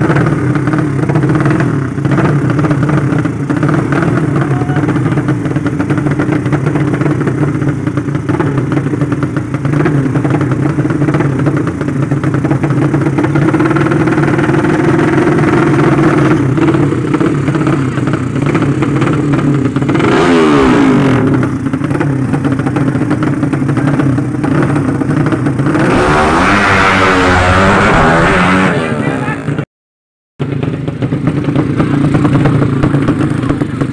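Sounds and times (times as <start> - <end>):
motorcycle engines running: 0.0 - 29.6, 30.4 - 33.9
motorcycle engines revving: 0.0 - 29.7, 30.4 - 33.9.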